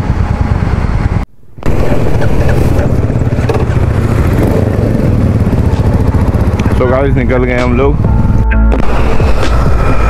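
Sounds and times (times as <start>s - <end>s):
motorcycle engine running slowly: 0.0s - 10.0s.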